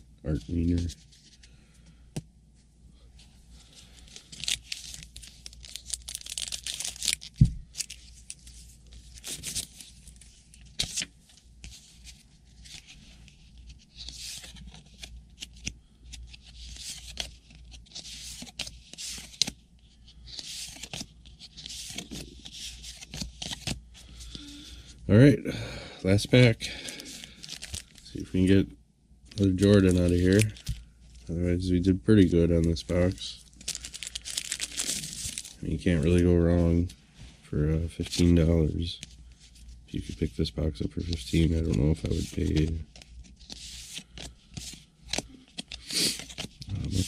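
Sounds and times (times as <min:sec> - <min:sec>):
cards rustling and scraping: 0:00.3 - 0:01.6, 0:03.6 - 0:25.0, 0:26.8 - 0:28.6, 0:29.3 - 0:37.0, 0:37.8 - 0:47.0.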